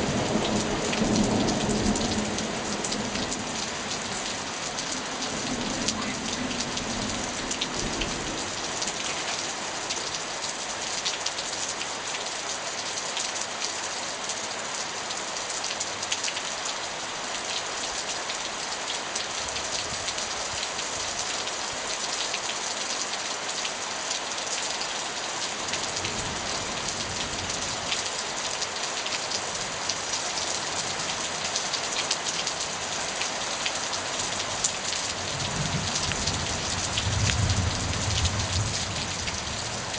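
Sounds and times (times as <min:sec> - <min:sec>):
heavy rain falling: 0:00.0 - 0:39.9
raindrops striking close by: 0:00.0 - 0:39.9.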